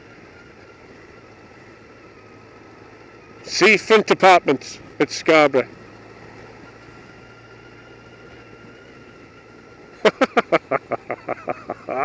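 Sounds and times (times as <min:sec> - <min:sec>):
motorbike running and road noise: 0:00.0 - 0:12.0.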